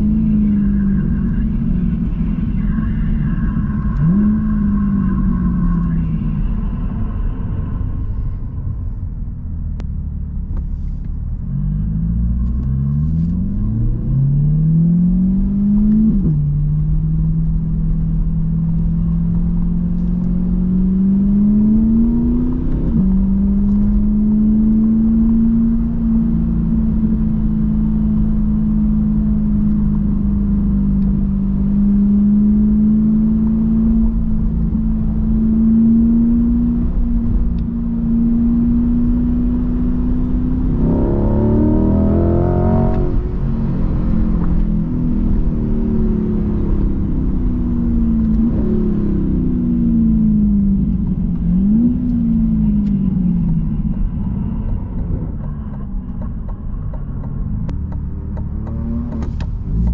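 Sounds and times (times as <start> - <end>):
car engine accelerating: 0.0 - 59.9
low rumble: 0.0 - 59.9.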